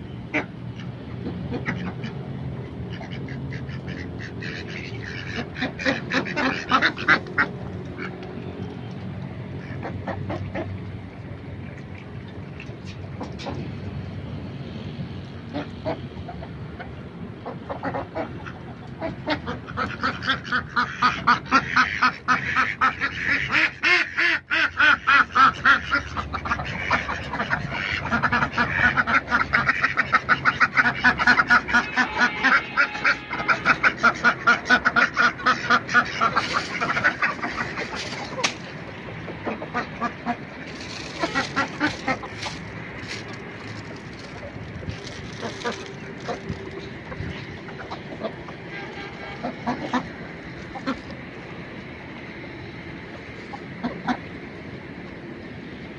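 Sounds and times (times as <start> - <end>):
ducks quacking: 0.3 - 8.2, 9.5 - 10.8, 15.5 - 51.3.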